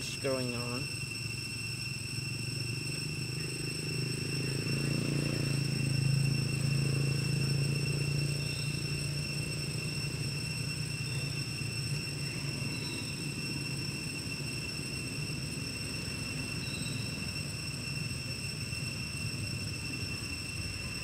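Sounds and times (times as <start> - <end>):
high-pitched whining tones: 0.0 - 21.0
low hum of distant engine: 0.0 - 21.0.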